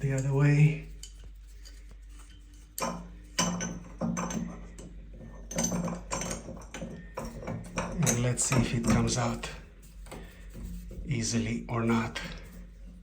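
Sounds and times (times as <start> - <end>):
wrench clinking and knocking: 0.0 - 10.7.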